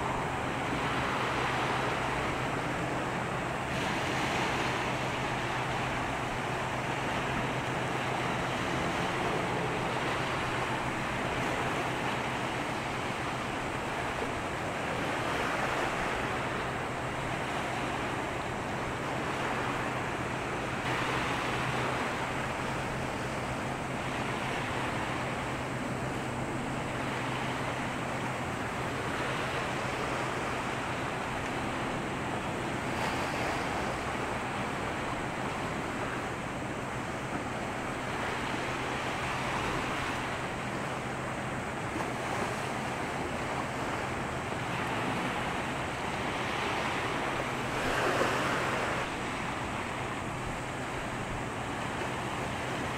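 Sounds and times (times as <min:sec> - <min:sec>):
waves washing against shore: 0:00.0 - 0:52.9.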